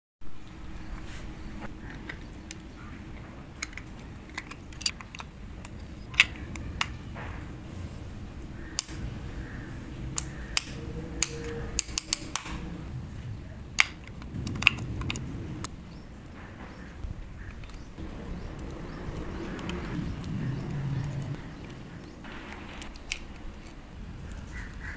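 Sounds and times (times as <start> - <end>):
low background rumble: 0.3 - 24.9.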